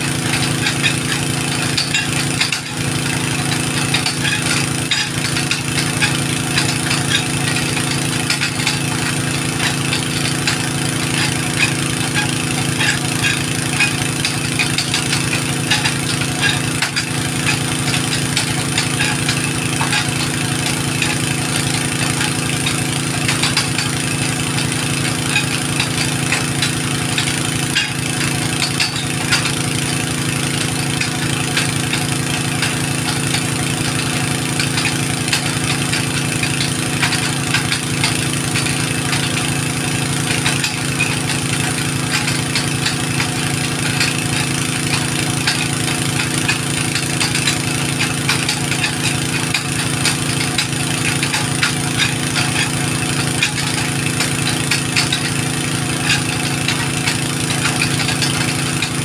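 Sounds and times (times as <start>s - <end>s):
engine running with ticking: 0.0s - 59.0s.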